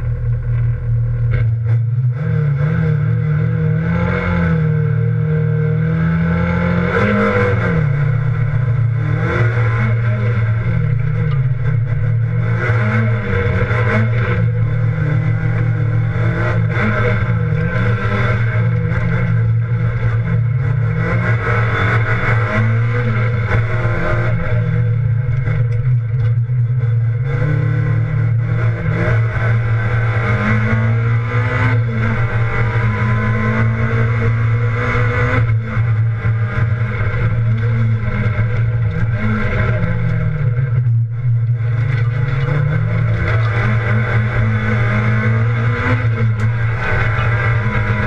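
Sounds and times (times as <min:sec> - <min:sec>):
rally car engine revving: 0:00.0 - 0:48.0.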